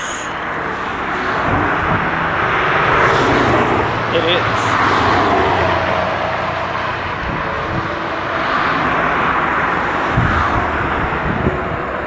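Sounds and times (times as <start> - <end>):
wind over microphone: 0.0 - 12.0.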